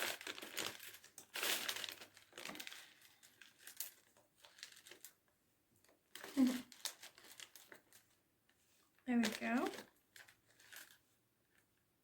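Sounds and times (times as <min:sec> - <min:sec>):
plastic packet crinkling: 0:00.0 - 0:08.2, 0:09.0 - 0:11.6.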